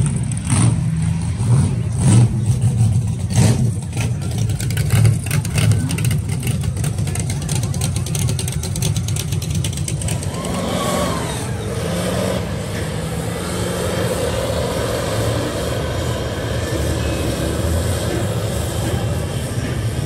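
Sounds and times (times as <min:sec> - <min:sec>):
truck engines running hard: 0:00.0 - 0:20.0.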